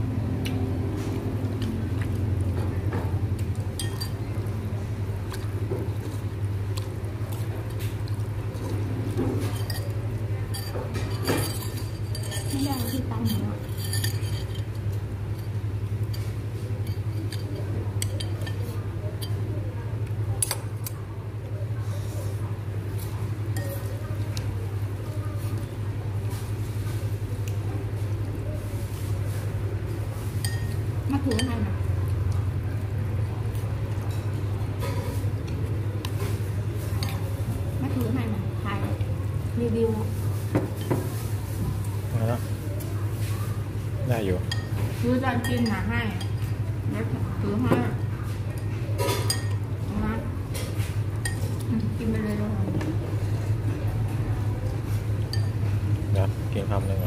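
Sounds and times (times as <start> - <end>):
chopsticks stirring noodles: 0.6 - 47.2, 48.0 - 54.1, 54.7 - 56.4.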